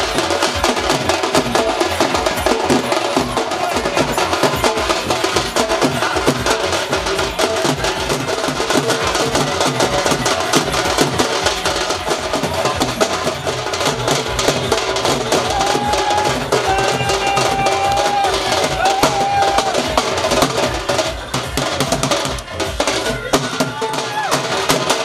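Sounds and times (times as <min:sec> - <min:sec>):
drum band playing dance rhythm: 0:00.0 - 0:25.0
sharp clattering drum strokes: 0:00.0 - 0:25.0.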